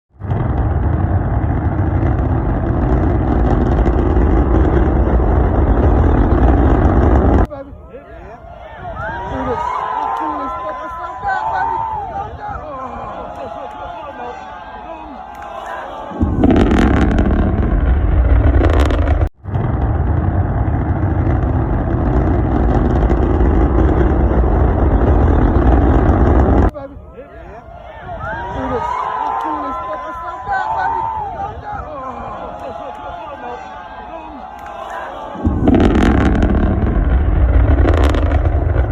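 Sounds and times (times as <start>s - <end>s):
rocket engines roaring: 0.2s - 13.7s, 16.0s - 26.7s, 27.5s - 38.9s.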